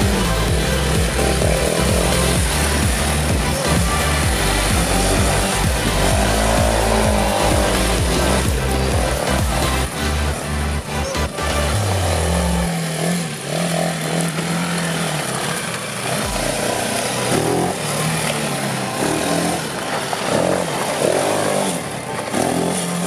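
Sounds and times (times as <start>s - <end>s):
quad bike engine revving: 0.0s - 23.0s.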